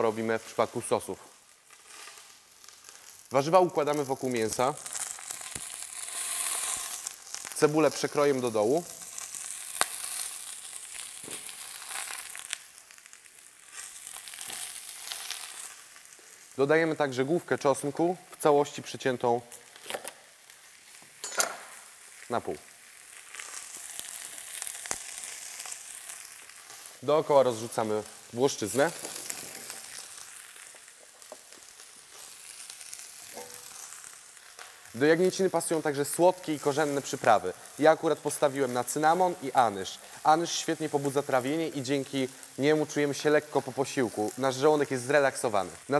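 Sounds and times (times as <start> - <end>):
meat sizzling in a pot: 0.0 - 45.9.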